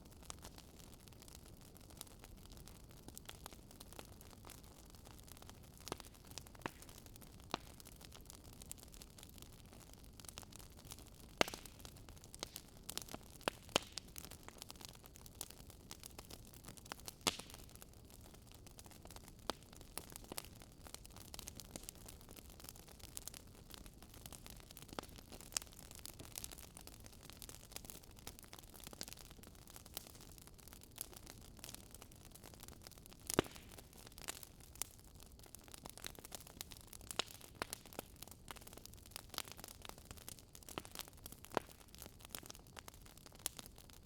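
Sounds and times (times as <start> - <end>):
burning wood crackling: 0.0 - 44.0.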